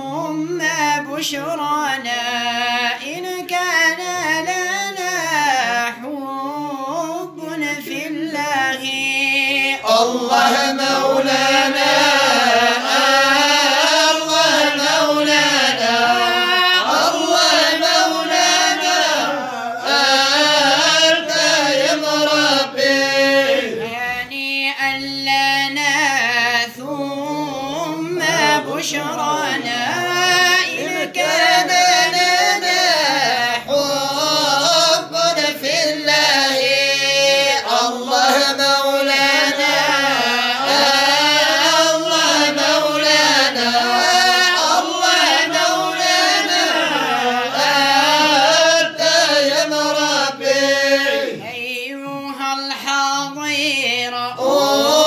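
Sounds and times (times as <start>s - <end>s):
man chanting devotional melody: 0.0s - 55.0s.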